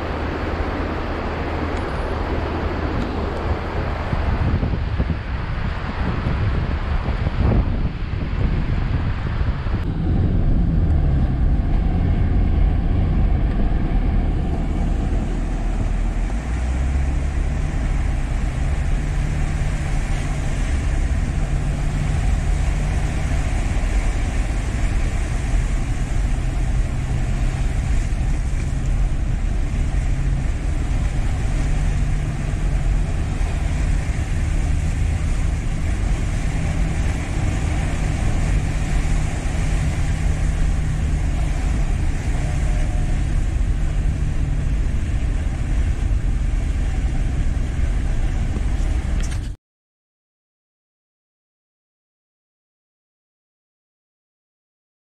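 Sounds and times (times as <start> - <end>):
car engine hum: 0.0 - 49.6
tyres rushing through water: 0.0 - 49.6.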